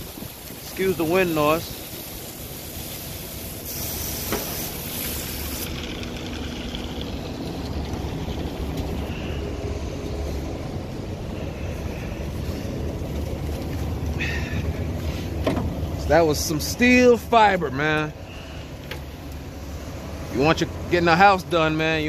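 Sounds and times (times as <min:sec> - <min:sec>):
concrete mixer truck rumble: 0:00.0 - 0:22.0
hose spraying water: 0:00.0 - 0:22.0.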